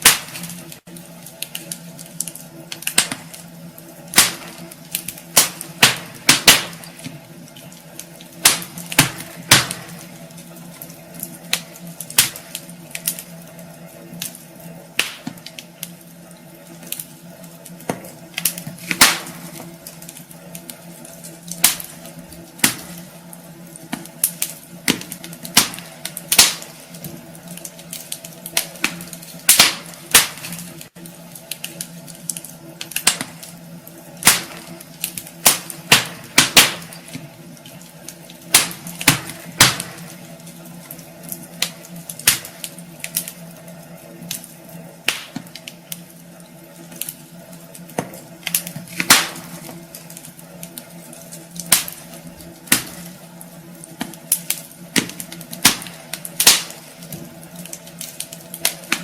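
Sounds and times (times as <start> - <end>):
burning logs popping: 0.0 - 59.0
fire hiss: 0.0 - 59.0
wood fire crackling: 0.0 - 59.0.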